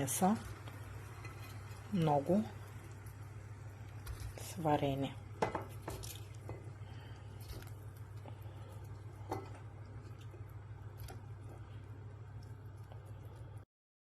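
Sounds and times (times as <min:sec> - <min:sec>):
low steady hum: 0:00.0 - 0:13.7.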